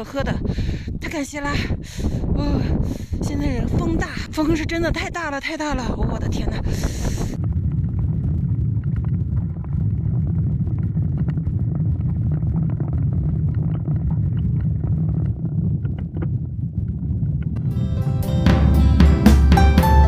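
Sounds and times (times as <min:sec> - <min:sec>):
wind buffeting microphone: 0:00.0 - 0:17.7.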